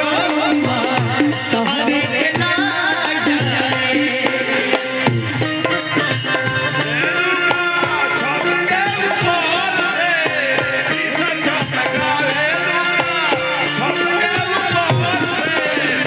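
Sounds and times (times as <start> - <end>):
band playing wavering melody: 0.0 - 16.0
quick busy percussion: 0.0 - 16.0.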